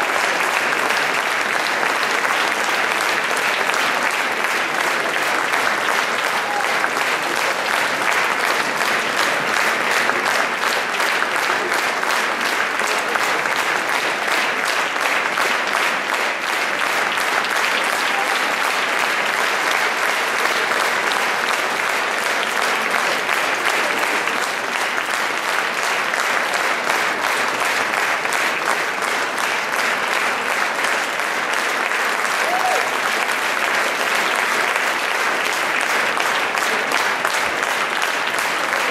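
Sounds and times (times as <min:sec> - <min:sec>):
audience applauding: 0:00.0 - 0:38.9.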